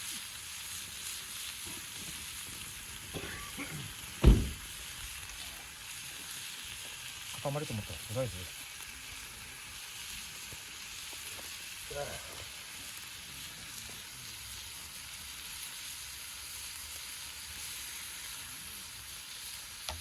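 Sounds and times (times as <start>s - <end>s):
meat sizzling over a campfire: 0.0s - 20.0s.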